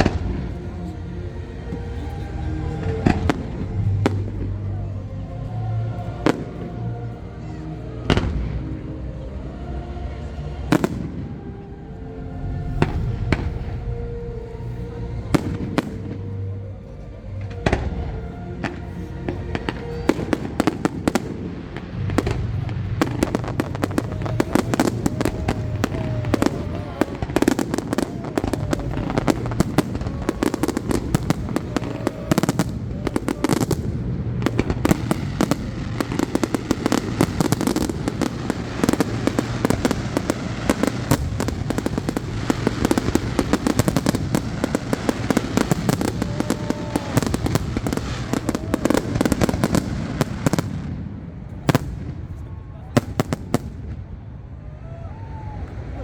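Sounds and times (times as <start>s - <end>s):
fireworks bangs and crackling: 0.0s - 5.0s, 6.2s - 6.7s, 10.6s - 11.7s, 12.4s - 16.5s, 17.1s - 54.6s
music playing: 0.0s - 53.6s.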